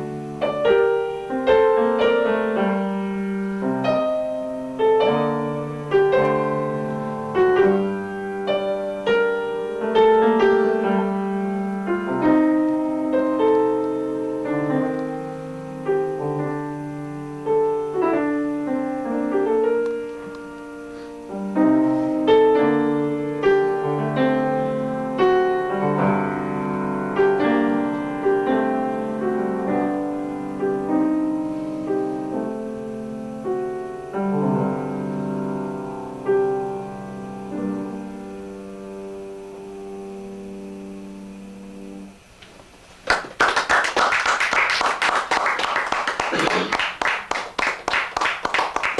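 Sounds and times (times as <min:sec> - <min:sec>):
solo piano: 0:00.0 - 0:43.0.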